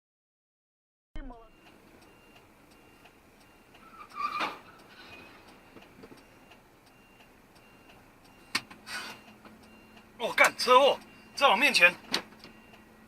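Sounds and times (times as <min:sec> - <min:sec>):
faint ticking: 0:01.5 - 0:13.0.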